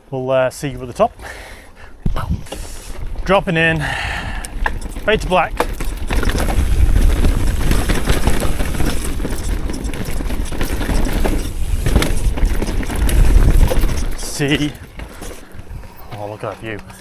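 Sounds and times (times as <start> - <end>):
mountain bike rattling: 0.0 - 17.0
wind rumbling on microphone: 0.6 - 16.3
tyres and frame knocking: 2.0 - 17.0.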